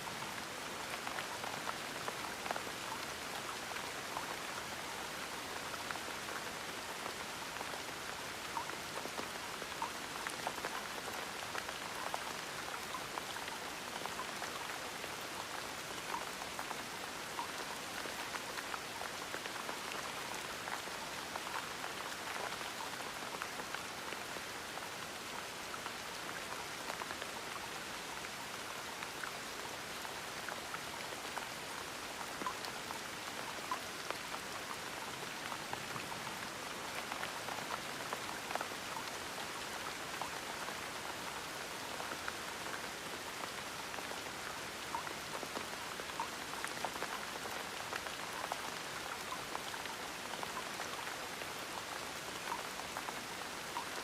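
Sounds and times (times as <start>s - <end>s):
gentle rain falling: 0.0s - 54.0s
raindrops pattering on a surface: 0.1s - 54.0s.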